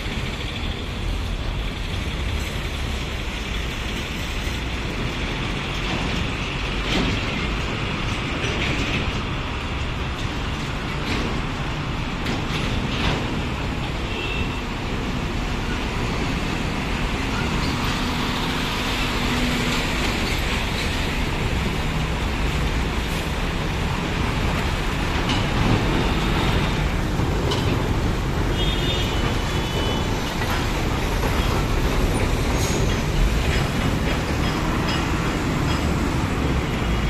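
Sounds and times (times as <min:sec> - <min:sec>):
trucks rolling past: 0:00.0 - 0:37.0.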